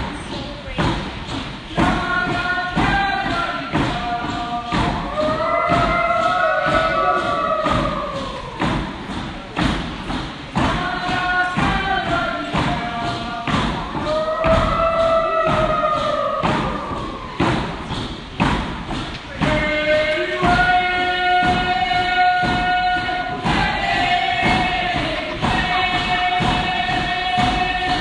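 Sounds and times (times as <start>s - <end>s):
drum struck steadily: 0.0s - 28.0s
group singing in unison: 1.7s - 9.2s, 10.6s - 18.0s, 19.3s - 28.0s.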